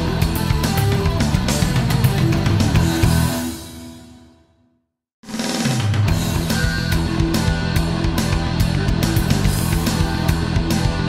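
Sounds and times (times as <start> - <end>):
heavy rock music: 0.0 - 4.4, 5.2 - 11.0.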